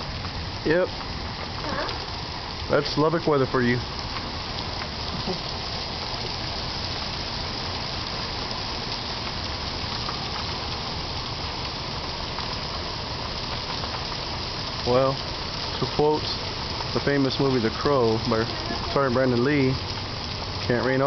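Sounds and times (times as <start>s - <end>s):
heavy rain and hail falling: 0.0s - 21.0s.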